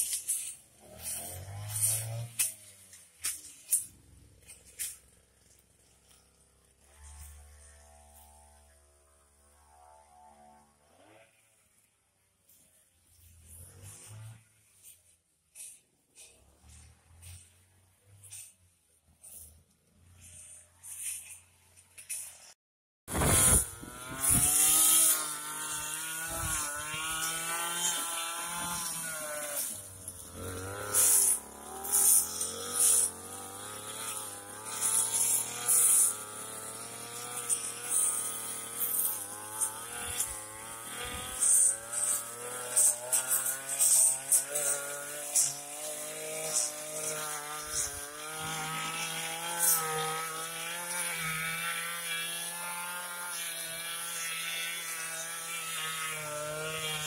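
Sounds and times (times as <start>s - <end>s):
brush cutter cutting grass: 0.0s - 57.0s.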